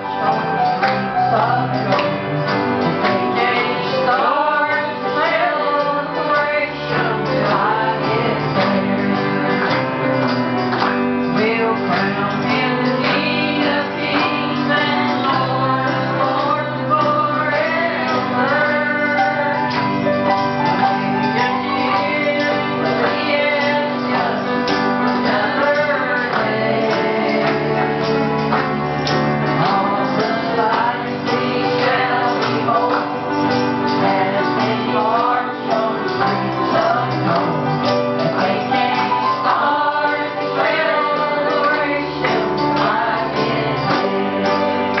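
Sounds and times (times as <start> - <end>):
instrumental accompaniment with bass: 0.0 - 45.0
woman singing gospel song: 0.9 - 2.2, 3.2 - 9.1, 11.3 - 19.9, 20.9 - 28.0, 29.5 - 33.4, 34.0 - 37.7, 38.3 - 45.0.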